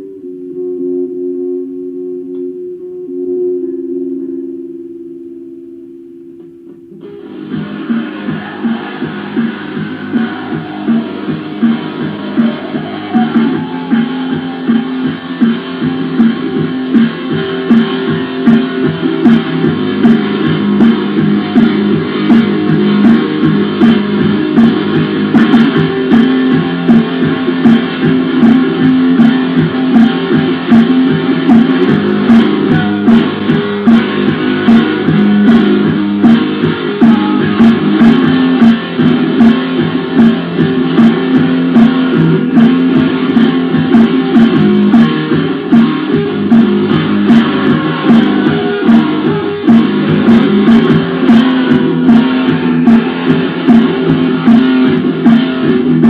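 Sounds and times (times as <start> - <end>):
distorted black metal music: 0.0 - 56.0.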